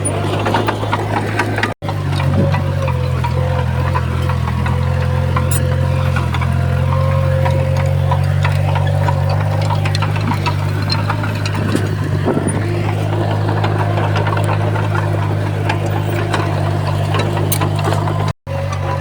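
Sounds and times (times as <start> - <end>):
heavy diesel engine running: 0.0 - 19.0
metallic clanks: 0.0 - 19.0.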